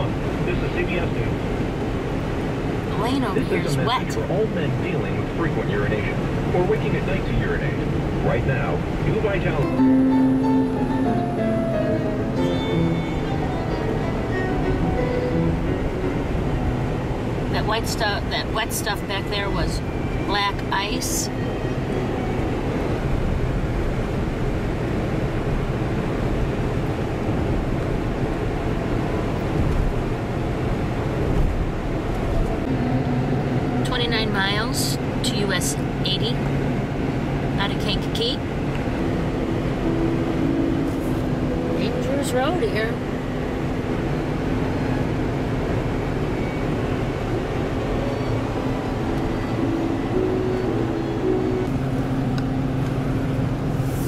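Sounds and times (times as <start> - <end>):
car road and engine noise: 0.0 - 54.0
low hum: 0.0 - 54.0
tyres rumbling on highway: 0.0 - 54.0.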